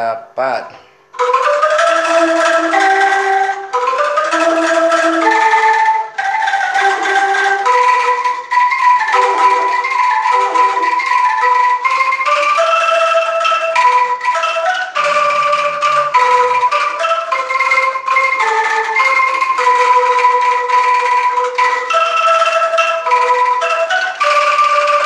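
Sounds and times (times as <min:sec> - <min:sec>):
gamelan mallet instruments melody: 0:01.1 - 0:25.0.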